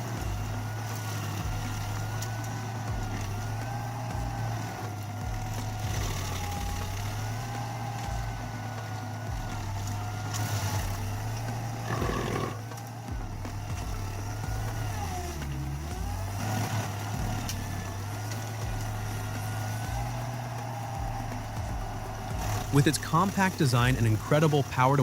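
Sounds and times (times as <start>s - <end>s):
stump grinder engine drone: 0.0s - 25.0s.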